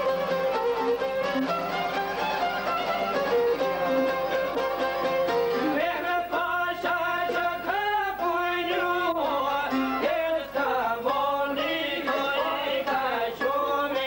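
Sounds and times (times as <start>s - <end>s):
plucked lute: 0.0s - 14.0s
person singing folk song: 2.6s - 14.0s.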